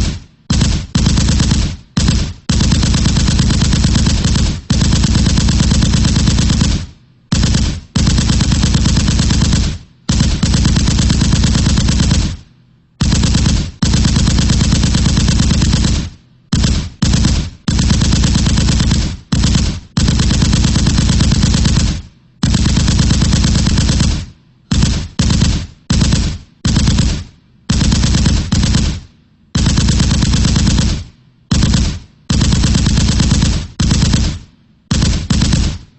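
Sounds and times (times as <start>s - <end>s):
machine gun firing bursts: 0.0s - 35.9s.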